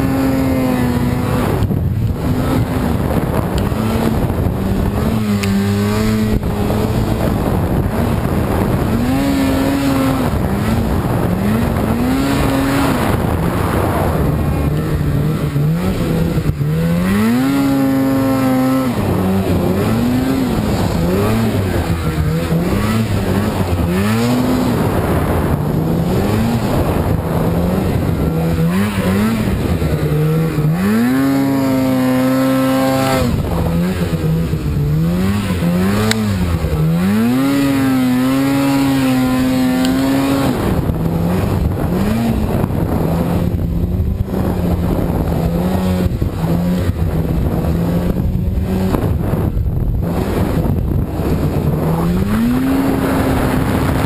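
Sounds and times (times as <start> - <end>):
snowmobile engine revving: 0.0 - 54.0
track and snow rushing: 0.0 - 54.0.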